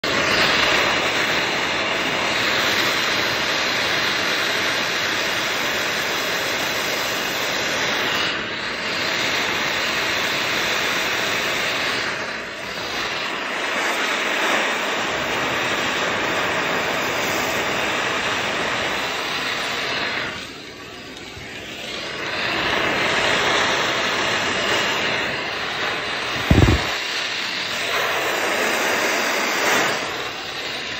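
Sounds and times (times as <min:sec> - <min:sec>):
gas torch flame hissing: 0:00.0 - 0:30.9.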